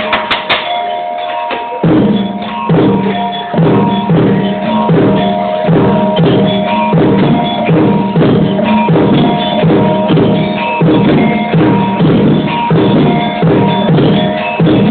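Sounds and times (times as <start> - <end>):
drums beating steady rhythm: 0.0 - 14.9
ringing pitched tones: 0.0 - 14.9.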